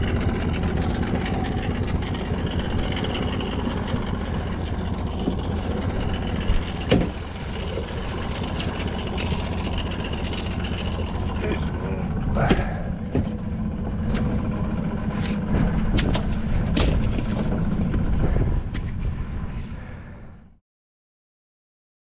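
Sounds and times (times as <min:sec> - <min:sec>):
boat motor running: 0:00.0 - 0:20.6.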